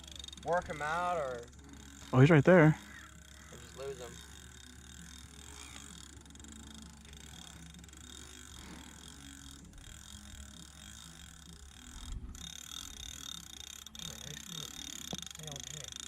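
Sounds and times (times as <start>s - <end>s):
low steady rumble: 0.0s - 15.4s
fishing reel ratchet clicking: 0.0s - 16.0s.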